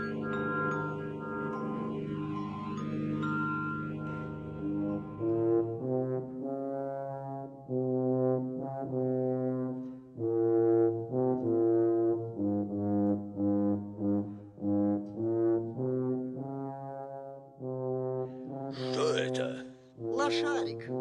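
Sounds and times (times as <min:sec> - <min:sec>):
low brass slow melody: 0:00.0 - 0:20.1.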